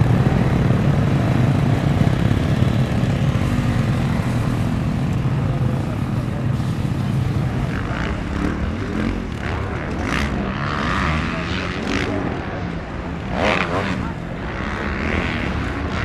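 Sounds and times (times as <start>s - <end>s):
motocross bike engines droning: 0.0s - 16.0s.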